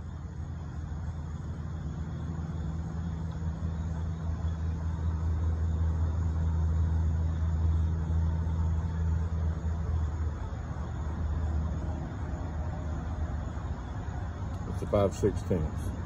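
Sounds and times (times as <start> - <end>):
low rumble with hum: 0.0 - 16.0.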